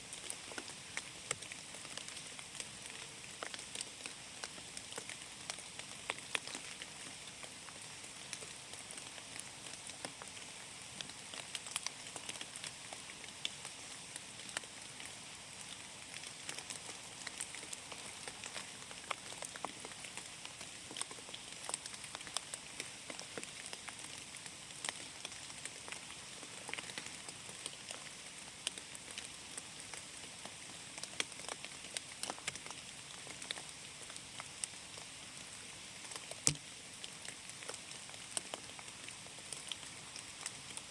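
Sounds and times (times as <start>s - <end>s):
rain falling through forest: 0.0s - 40.9s.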